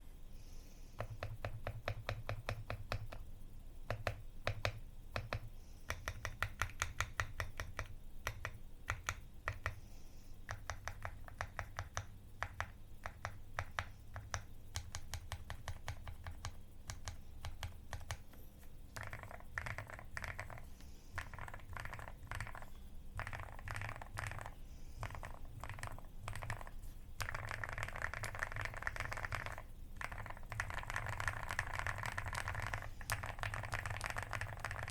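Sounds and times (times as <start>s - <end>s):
mechanical keyboard typing: 1.0s - 3.2s, 3.9s - 9.8s, 10.5s - 18.3s, 18.9s - 34.9s.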